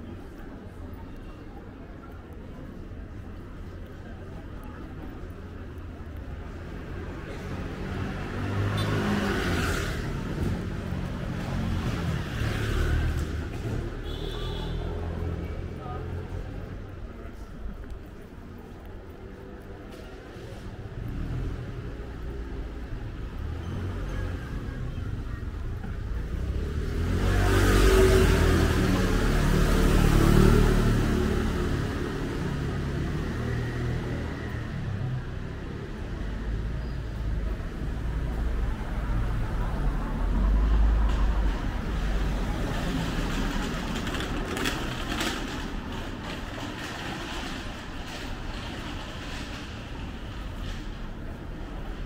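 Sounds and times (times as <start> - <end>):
street noise: 0.0 - 52.0.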